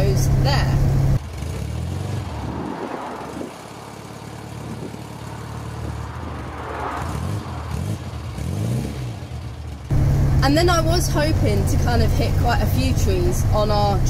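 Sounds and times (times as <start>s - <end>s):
car engine exhaust revving: 0.0s - 14.0s.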